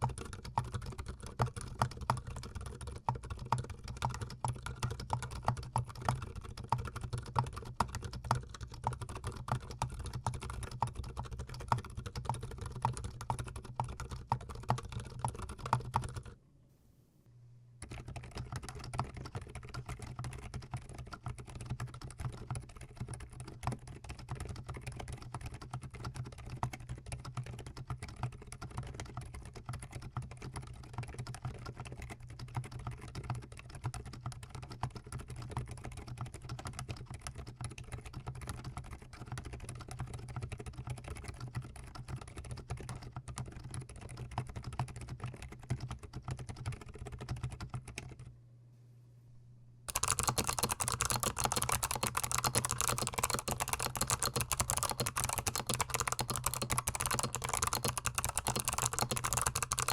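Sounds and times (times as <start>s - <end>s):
mechanical keyboard typing: 0.0s - 16.4s, 17.8s - 48.3s, 49.9s - 59.9s.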